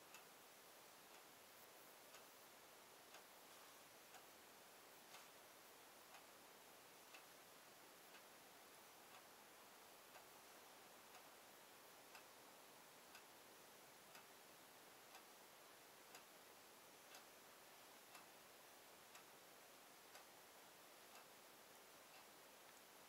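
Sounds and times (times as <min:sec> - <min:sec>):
clock ticking faintly: 0:00.0 - 0:23.0
light steady hiss: 0:00.0 - 0:23.0.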